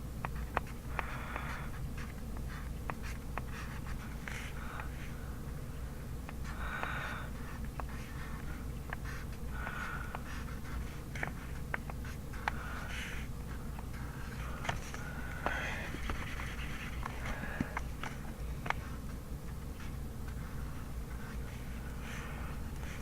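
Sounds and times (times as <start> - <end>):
steady low hum: 0.0 - 23.0
pencil scratching on paper: 0.4 - 5.2, 6.4 - 23.0.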